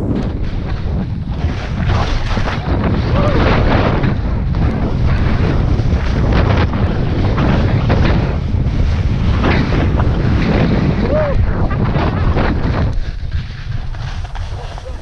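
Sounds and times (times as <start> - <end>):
skis scraping through crusty snow: 0.0 - 11.0, 11.6 - 15.0
wind buffeting microphone: 0.0 - 15.0.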